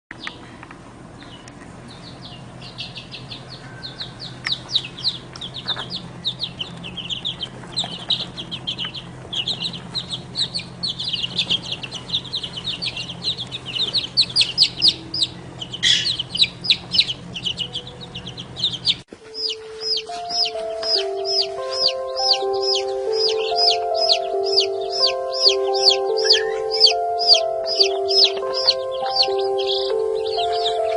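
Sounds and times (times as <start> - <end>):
baby chicks peeping: 0.1 - 30.9
low steady hum: 0.1 - 30.9.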